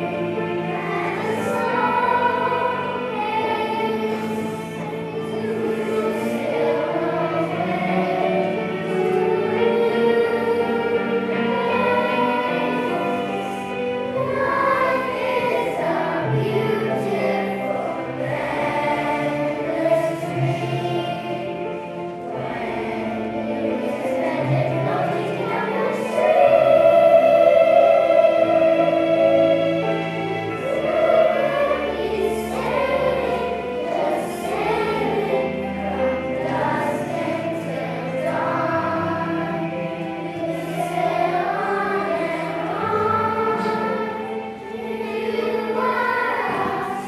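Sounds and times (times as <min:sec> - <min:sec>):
children's choir singing: 0:00.0 - 0:47.0
low accompanying notes: 0:00.0 - 0:47.0.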